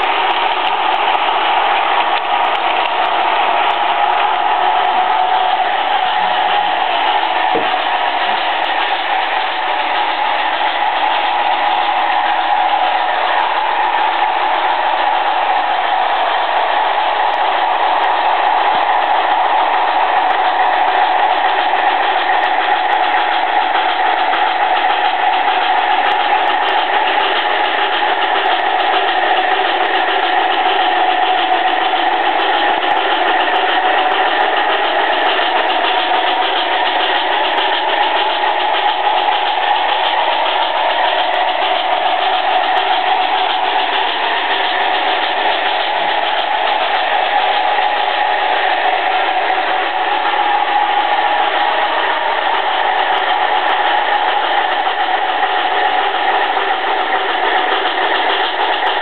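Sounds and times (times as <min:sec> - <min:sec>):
model train motors humming: 0:00.0 - 0:59.0
wheels rolling on rails: 0:00.0 - 0:59.0.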